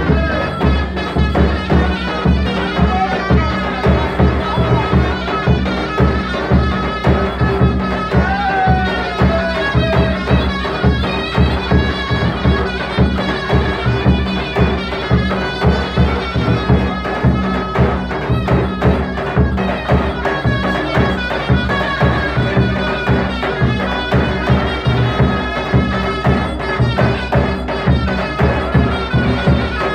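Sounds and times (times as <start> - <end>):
reedy wind instrument melody: 0.0 - 29.9
steady drum beat: 0.0 - 29.9.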